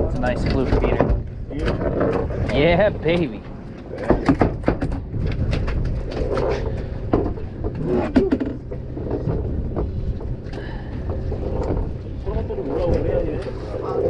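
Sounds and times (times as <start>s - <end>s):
boat engine rumble: 0.0s - 14.0s
wind: 0.0s - 14.0s.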